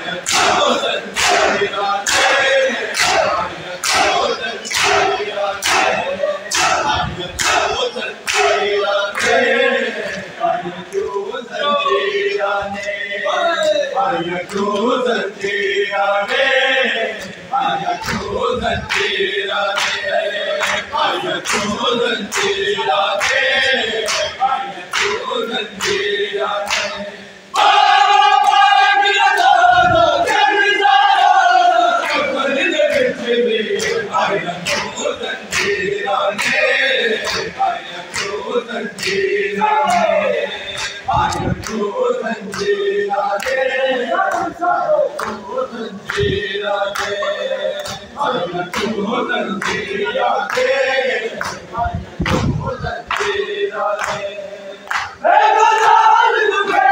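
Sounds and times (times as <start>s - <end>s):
crowd shouting: 0.0s - 14.4s, 17.4s - 51.8s, 53.2s - 56.9s
men chanting in unison: 0.0s - 56.9s.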